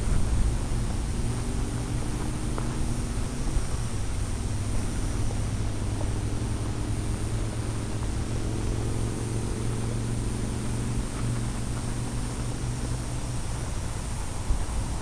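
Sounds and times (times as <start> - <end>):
airflow rushing over glider: 0.0 - 15.0
steady low hum: 0.0 - 15.0.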